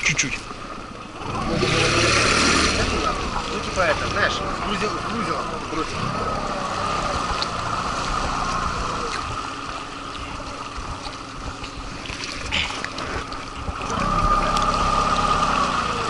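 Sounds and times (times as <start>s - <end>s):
outboard motor running: 0.0s - 16.0s
water trickling along hull: 0.0s - 16.0s.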